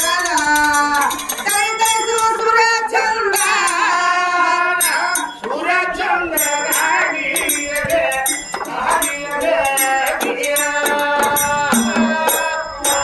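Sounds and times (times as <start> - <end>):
folk devotional singing: 0.0 - 13.0
hand percussion clinking: 0.0 - 13.0.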